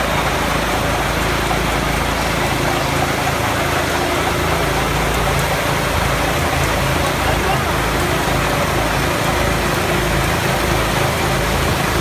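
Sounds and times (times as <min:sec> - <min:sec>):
harvester engine drone: 0:00.0 - 0:12.0.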